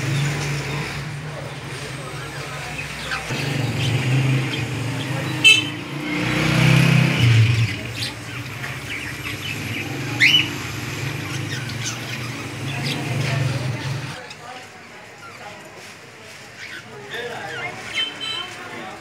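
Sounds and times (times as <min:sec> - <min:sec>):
low traffic rumble: 0:00.0 - 0:19.0
parrots chirping: 0:00.0 - 0:19.0.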